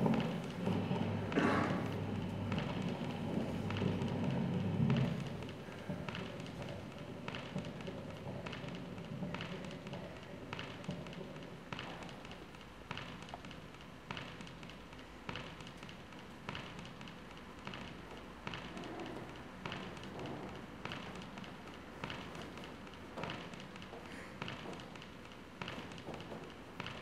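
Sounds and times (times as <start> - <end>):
low steady hum: 0.0 - 27.0
soft ticking taps: 0.0 - 27.0.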